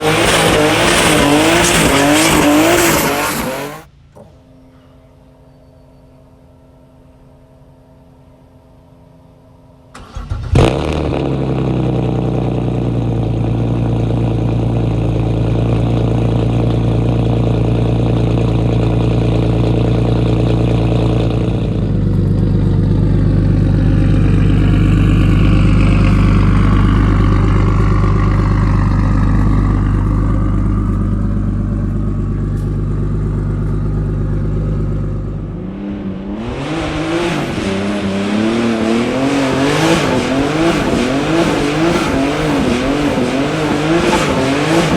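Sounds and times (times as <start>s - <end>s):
car engine revving: 0.0s - 3.9s, 10.0s - 44.9s
car engine starting: 0.0s - 4.5s, 9.9s - 44.9s.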